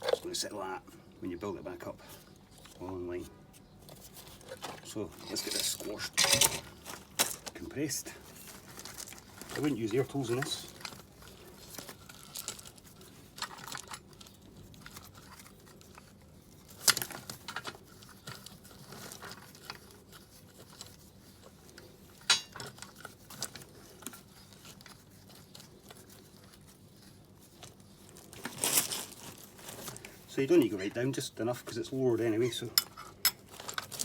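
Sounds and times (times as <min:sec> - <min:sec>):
faint scraping and handling: 0:00.0 - 0:00.8, 0:01.8 - 0:34.0.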